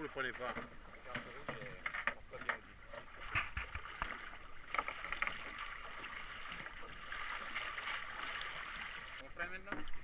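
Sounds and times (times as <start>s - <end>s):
water sloshing against boat hull: 0.0s - 10.0s.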